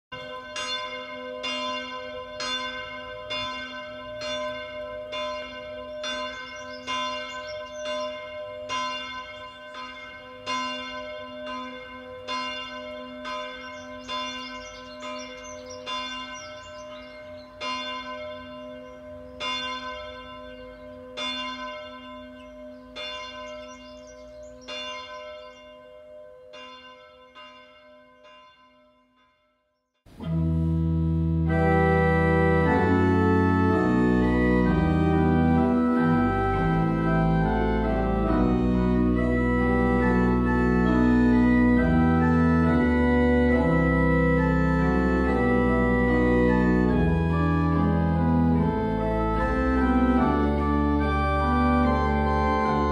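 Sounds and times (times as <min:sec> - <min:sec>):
church bell ringing: 0:00.1 - 0:52.9.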